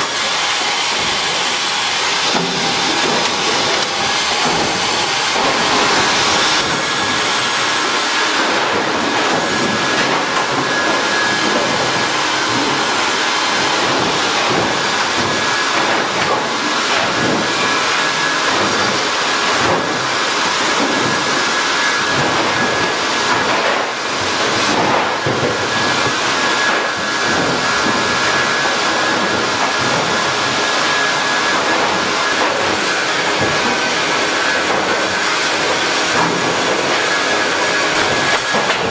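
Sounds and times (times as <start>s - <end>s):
sawmill machinery roaring: 0.0s - 38.9s.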